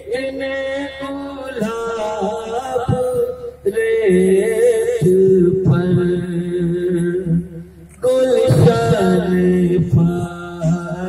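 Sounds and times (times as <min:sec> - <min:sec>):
man chanting devotional poem: 0:00.0 - 0:11.0.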